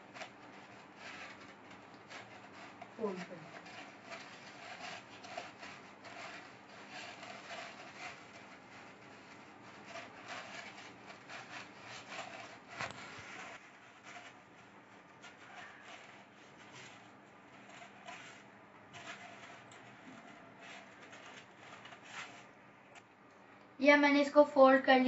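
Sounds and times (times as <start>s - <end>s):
crepe paper rustling: 0.0s - 23.1s.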